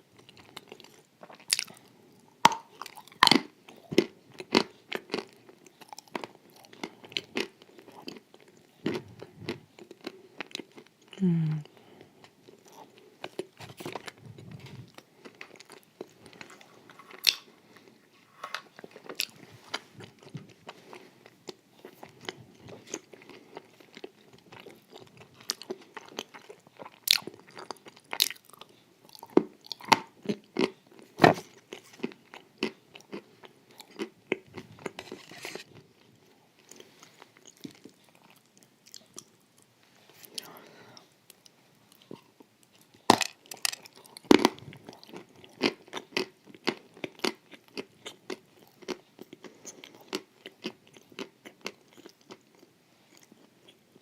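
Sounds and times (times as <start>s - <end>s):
chewing crunchy wafer: 0.0s - 18.0s, 18.7s - 40.5s, 41.3s - 54.0s.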